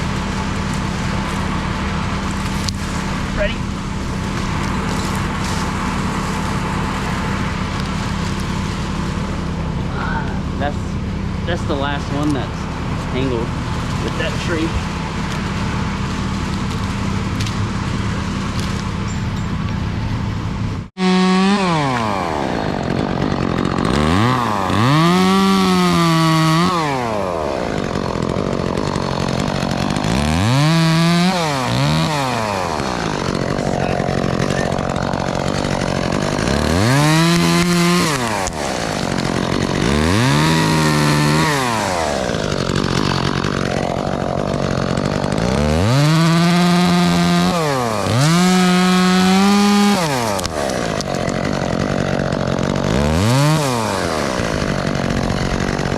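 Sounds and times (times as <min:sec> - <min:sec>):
chainsaw revving: 0:00.0 - 0:55.9.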